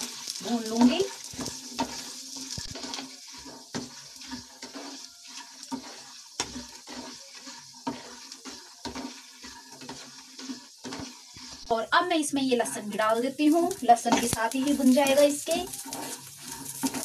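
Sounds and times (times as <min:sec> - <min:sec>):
grains rattling against pan: 0:00.0 - 0:17.0
light sizzle: 0:00.0 - 0:17.0
spatula scraping pan: 0:00.0 - 0:17.0.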